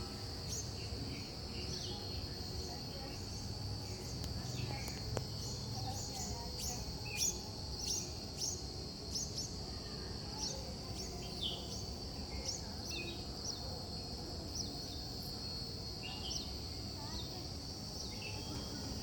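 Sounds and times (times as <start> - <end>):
small birds chirping: 0.2 - 9.6, 10.4 - 13.8, 16.0 - 19.0.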